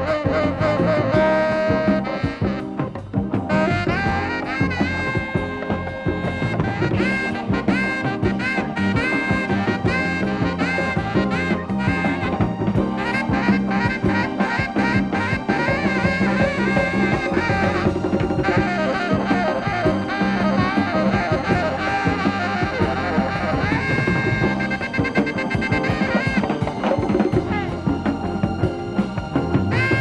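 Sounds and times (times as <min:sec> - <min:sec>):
drum kit: 0:00.0 - 0:30.0
electric bass: 0:00.0 - 0:30.0
tenor saxophone melody: 0:00.0 - 0:30.0.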